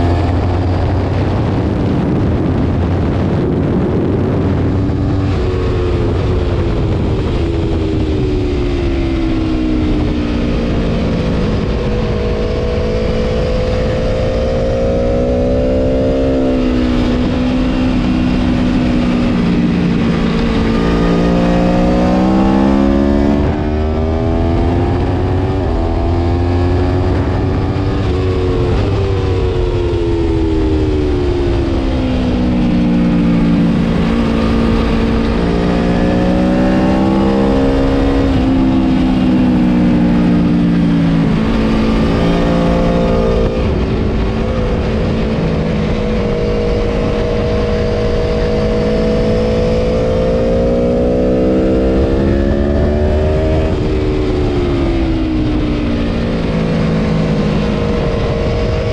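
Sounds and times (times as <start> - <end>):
motorcycle engine running hard: 0.0 - 58.9
wind rushing: 0.0 - 58.9.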